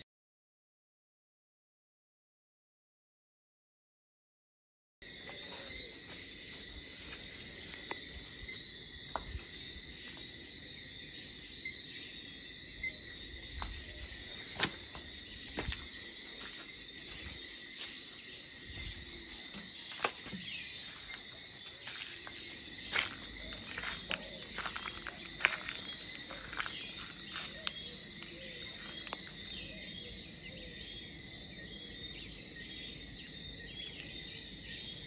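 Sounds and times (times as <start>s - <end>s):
insects chorus: 5.0s - 35.0s.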